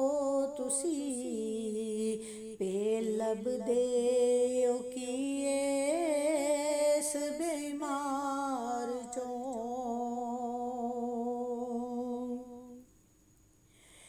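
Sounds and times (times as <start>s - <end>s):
woman singing unaccompanied: 0.0s - 12.9s.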